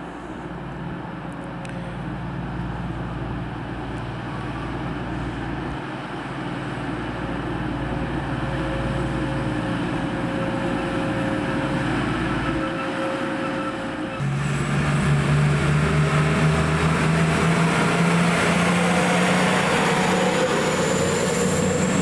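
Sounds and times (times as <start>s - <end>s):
diesel train engine rumble: 0.0s - 22.0s.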